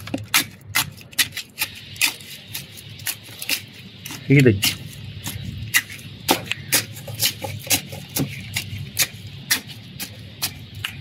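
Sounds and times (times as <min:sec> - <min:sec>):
tool jabbing into soil: 0:00.0 - 0:11.0.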